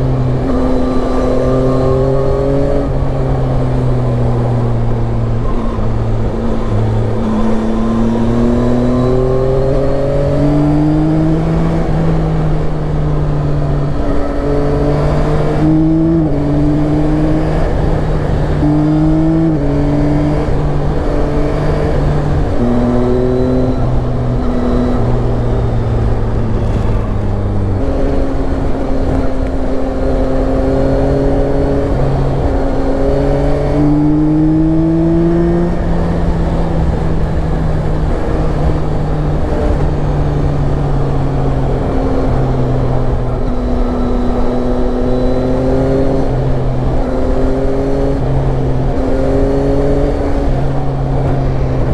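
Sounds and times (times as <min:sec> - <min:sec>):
motorcycle engine revving through gears: 0:00.0 - 0:51.9
wind noise: 0:00.0 - 0:51.9.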